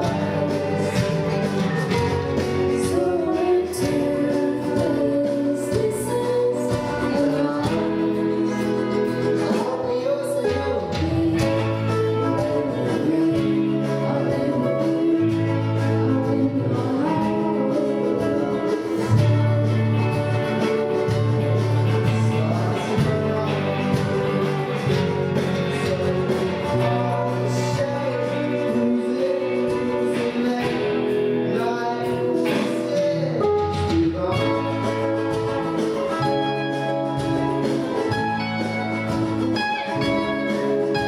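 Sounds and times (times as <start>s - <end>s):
guitar: 0.0s - 41.0s
person singing: 0.0s - 41.0s.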